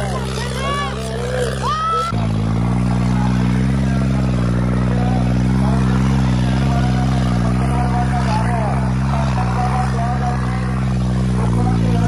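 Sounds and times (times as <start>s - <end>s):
tractor engine under heavy load: 0.0s - 12.0s.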